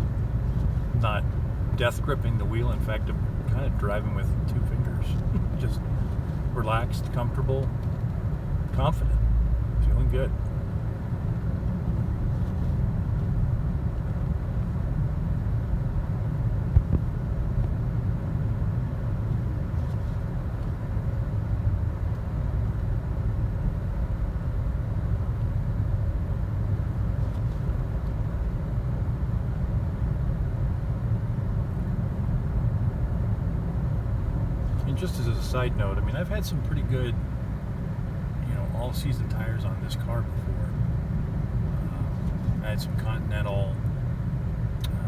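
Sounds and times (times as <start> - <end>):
car engine: 0.0 - 45.0
tyres rumbling on snowy road: 0.0 - 45.0.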